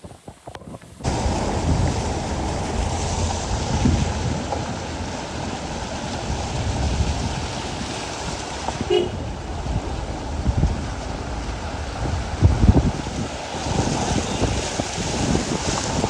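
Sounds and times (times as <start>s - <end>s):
wind buffeting microphone: 0.0s - 16.0s
heavy rain: 1.0s - 16.0s.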